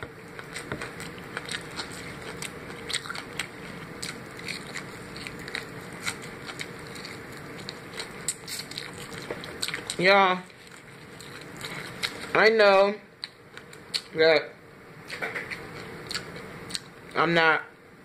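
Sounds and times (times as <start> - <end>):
chewing crunchy fried chicken: 0.0 - 14.2, 15.0 - 17.1.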